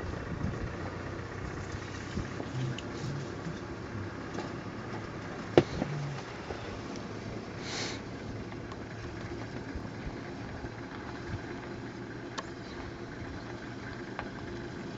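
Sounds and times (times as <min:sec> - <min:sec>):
vehicle engine idling: 0:00.0 - 0:14.9.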